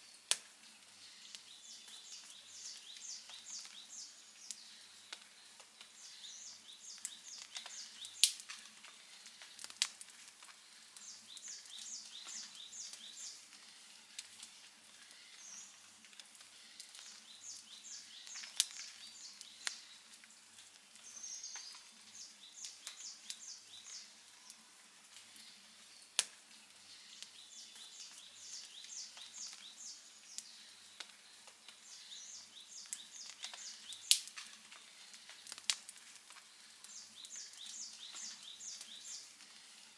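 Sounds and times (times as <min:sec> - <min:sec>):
campfire crackling: 0:00.0 - 0:39.9
fire popping: 0:00.1 - 0:24.2, 0:25.0 - 0:39.9.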